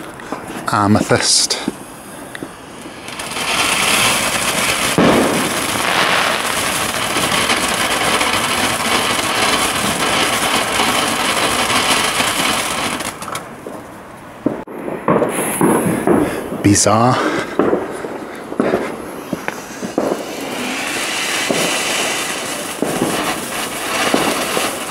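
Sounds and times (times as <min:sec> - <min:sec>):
firework fountain hissing and crackling: 0:00.0 - 0:24.9.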